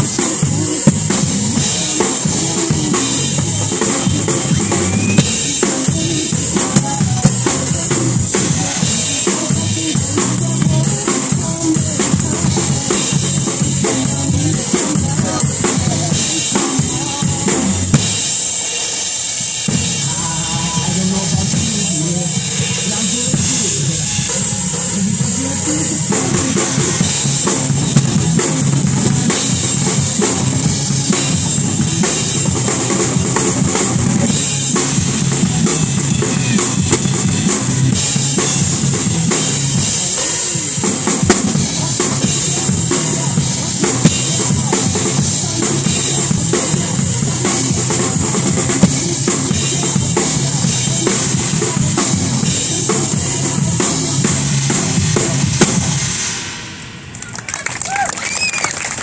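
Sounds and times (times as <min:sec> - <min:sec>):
drum kit played fast: 0:00.0 - 0:59.0.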